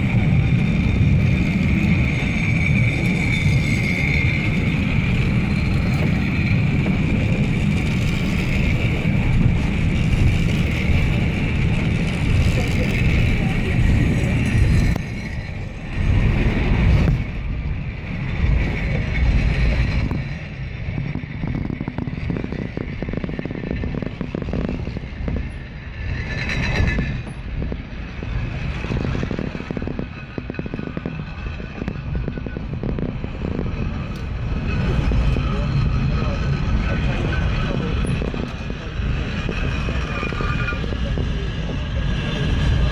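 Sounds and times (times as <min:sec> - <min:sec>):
railway car rumbling: 0:00.0 - 0:42.9
wheels clattering on rails: 0:00.0 - 0:42.9.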